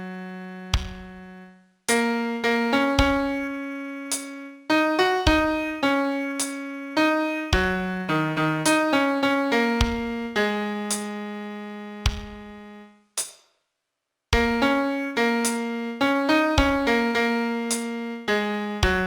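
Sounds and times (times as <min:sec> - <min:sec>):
slow piano melody: 0:00.0 - 0:12.8, 0:14.4 - 0:19.0.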